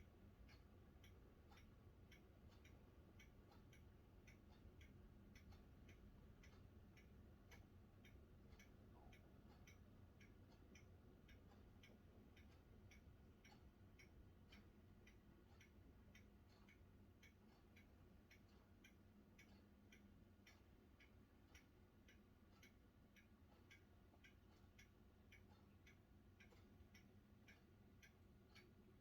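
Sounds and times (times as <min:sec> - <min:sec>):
faint ticking: 0:00.0 - 0:29.0.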